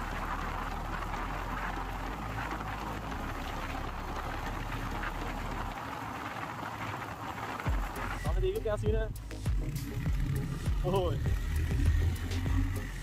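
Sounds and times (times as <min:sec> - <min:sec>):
motorcycle engine: 0:00.0 - 0:13.0
road noise: 0:00.0 - 0:13.0.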